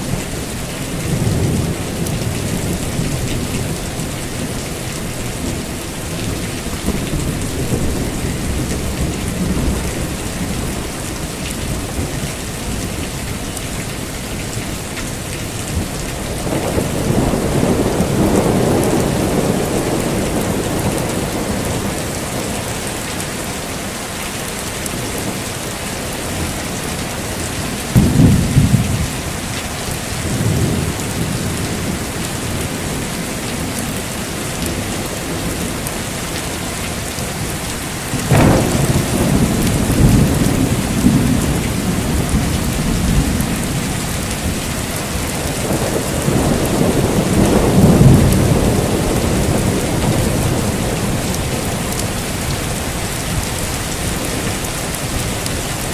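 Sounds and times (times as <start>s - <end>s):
thunder rumbling: 0.0s - 23.6s, 24.9s - 55.9s
heavy rain: 0.0s - 55.9s.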